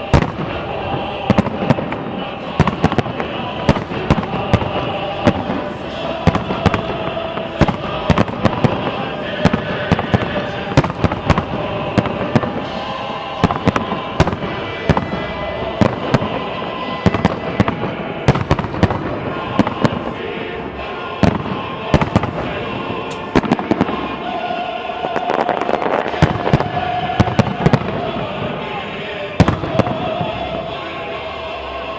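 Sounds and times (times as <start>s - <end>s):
fireworks bangs: 0.0s - 31.0s
fireworks crackle and rumble: 0.0s - 31.0s
music: 0.0s - 31.9s.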